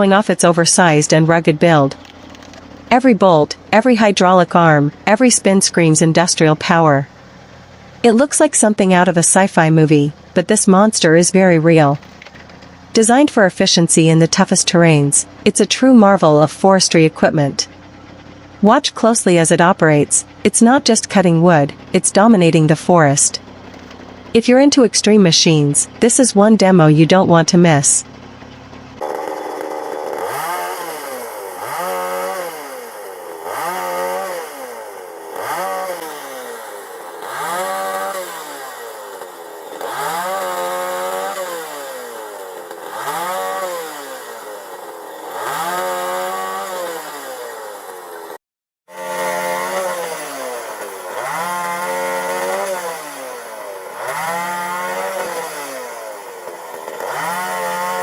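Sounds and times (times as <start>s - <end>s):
chainsaw engine revving: 0.0s - 27.2s, 27.8s - 58.0s.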